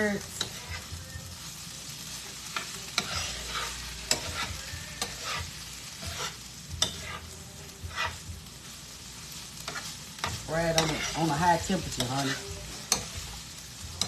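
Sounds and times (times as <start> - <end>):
utensil scraping a pan: 0.0 - 1.0, 2.2 - 8.3, 9.6 - 14.0
food sizzling in a pan: 0.0 - 14.0.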